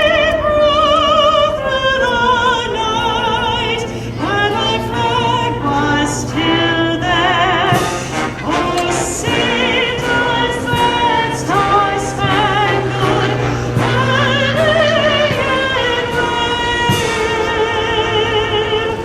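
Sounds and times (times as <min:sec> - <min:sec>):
person singing operatic style: 0:00.0 - 0:19.0.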